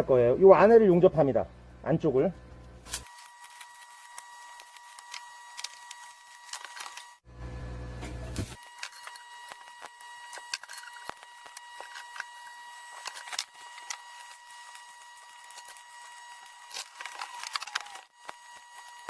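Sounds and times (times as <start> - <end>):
constant high whine: 0.0 - 19.0
arc welding crackle and pops: 2.5 - 7.3, 7.9 - 19.0.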